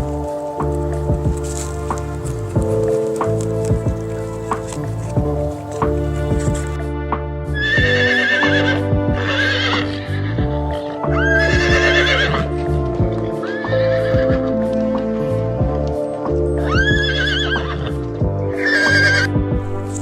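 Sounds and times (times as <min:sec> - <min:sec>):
horses whinnying: 0:00.0 - 0:06.8, 0:07.6 - 0:15.5, 0:16.6 - 0:20.0
background music with sustained notes: 0:00.0 - 0:20.0.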